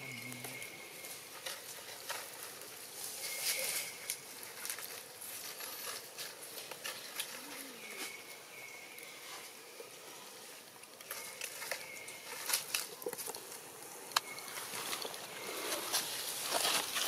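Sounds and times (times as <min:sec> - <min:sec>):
leaves rustling and crackling: 0:00.0 - 0:17.0.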